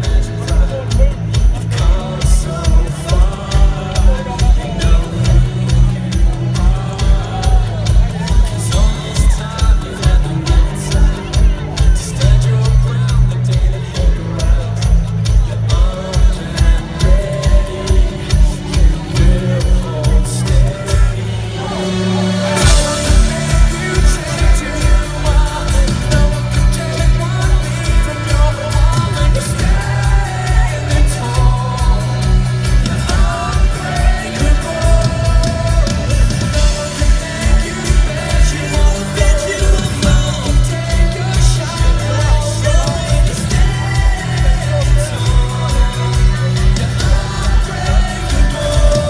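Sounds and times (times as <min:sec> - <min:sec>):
heavy bass line: 0:00.0 - 0:49.0
live rock band playing: 0:00.0 - 0:49.0
person singing: 0:00.0 - 0:49.0.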